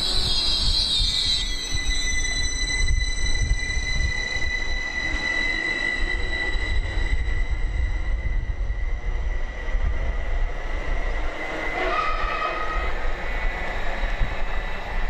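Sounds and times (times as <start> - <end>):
train high-pitched whine: 0.0 - 15.0
train low rumble: 0.0 - 15.0.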